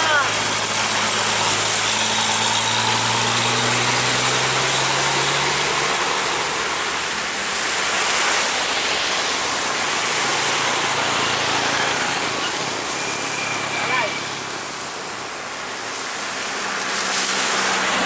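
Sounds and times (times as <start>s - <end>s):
truck diesel engine passing: 0.0s - 14.8s
passing traffic: 0.0s - 18.0s
tyres hissing on wet road: 0.0s - 18.0s.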